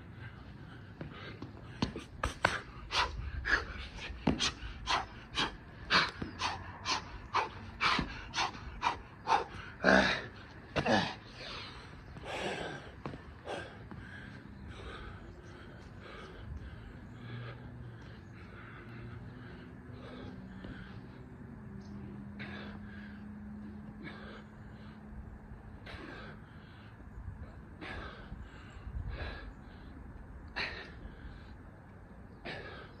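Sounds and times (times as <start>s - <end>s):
man panting hard: 0.0s - 33.0s.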